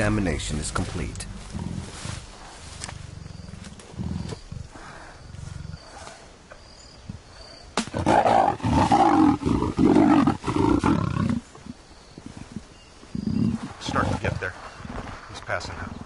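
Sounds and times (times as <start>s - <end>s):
leopard growling and snarling: 0.8s - 6.4s, 7.1s - 11.8s, 12.4s - 16.0s.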